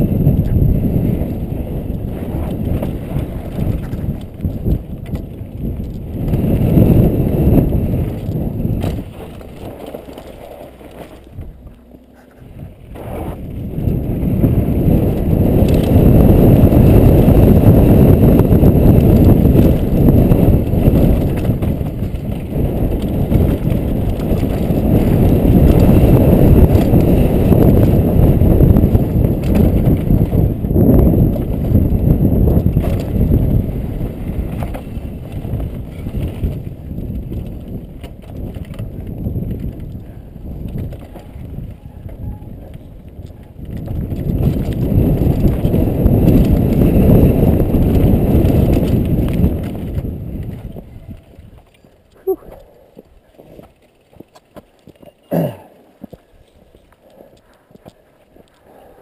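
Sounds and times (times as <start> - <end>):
bike rattling: 0.0 - 59.0
tyres rolling on dirt: 0.0 - 59.0
wind buffeting microphone: 0.0 - 59.0.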